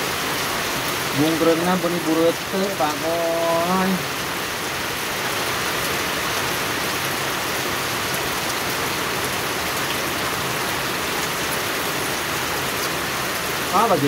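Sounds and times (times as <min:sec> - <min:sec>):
rain falling on water and stone: 0:00.0 - 0:14.0.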